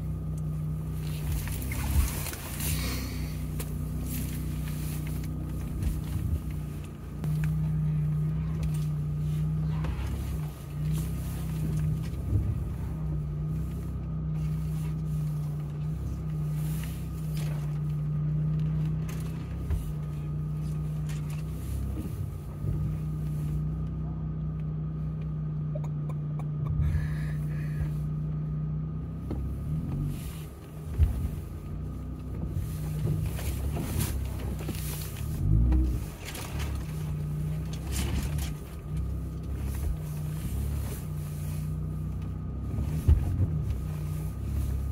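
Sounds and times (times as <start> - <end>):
car engine droning at low speed: 0.0 - 44.9.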